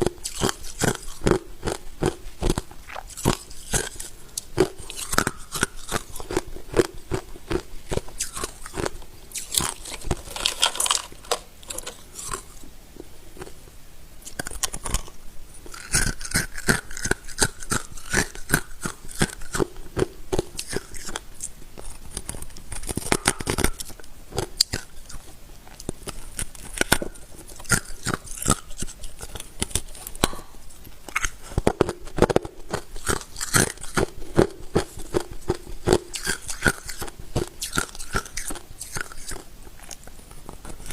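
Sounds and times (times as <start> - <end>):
ice being chewed: 0.0 - 13.6, 14.2 - 40.9.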